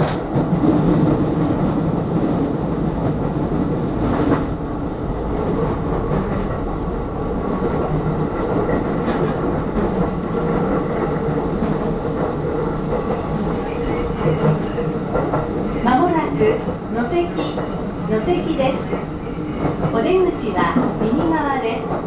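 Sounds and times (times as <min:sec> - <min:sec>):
electric train rumbling on track: 0:00.0 - 0:22.0.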